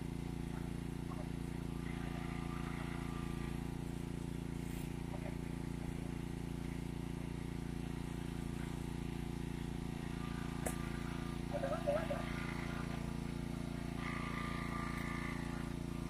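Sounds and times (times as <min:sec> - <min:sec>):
small engine low drone: 0:00.0 - 0:16.0.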